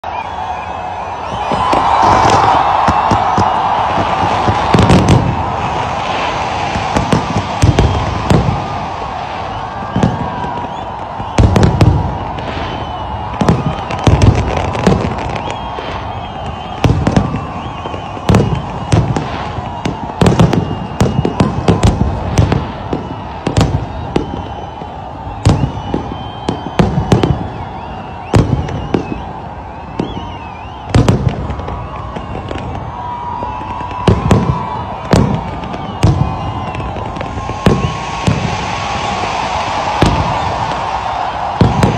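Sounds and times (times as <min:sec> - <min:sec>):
fireworks bursting with sharp bangs: 0:00.0 - 0:41.9.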